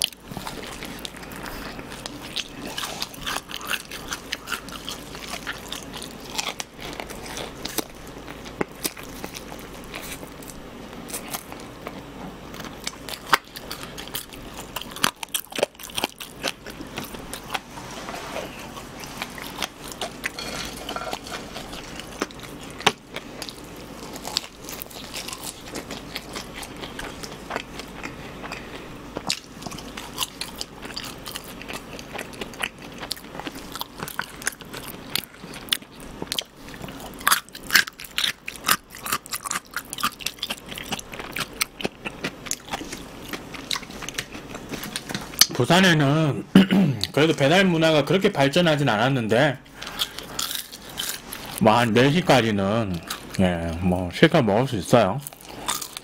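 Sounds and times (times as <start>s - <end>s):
chewing crispy food: 0.0s - 46.1s, 47.0s - 56.0s.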